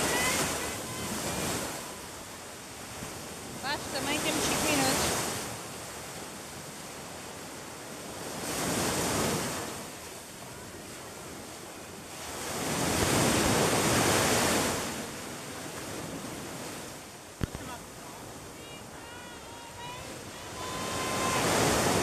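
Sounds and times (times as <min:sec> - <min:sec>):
waves washing up a beach: 0:00.0 - 0:22.0.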